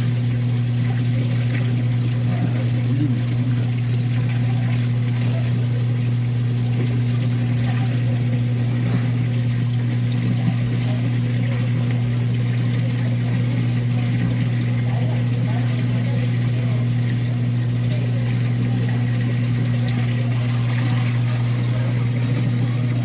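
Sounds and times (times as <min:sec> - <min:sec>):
low machine hum: 0:00.0 - 0:23.0
water pouring and trickling: 0:00.0 - 0:23.0.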